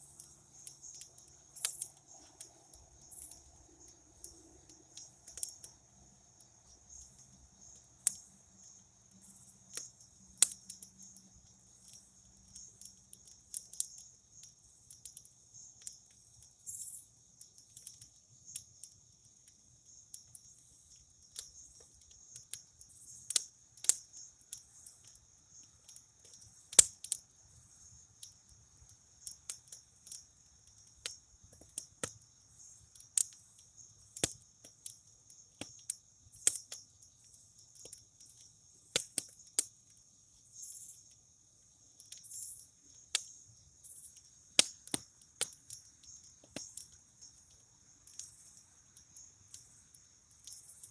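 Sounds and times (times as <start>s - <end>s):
campfire crackling and popping: 0.0s - 50.9s
crickets trilling: 0.0s - 50.9s.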